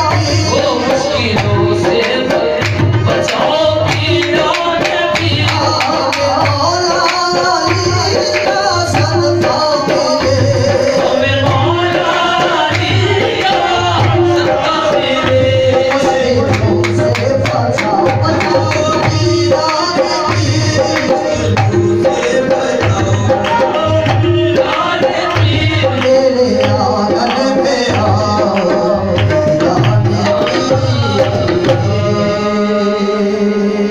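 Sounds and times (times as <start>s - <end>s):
hand drum beat: 0.0s - 32.4s
harmoniums: 0.0s - 33.9s
voices singing: 0.0s - 33.9s.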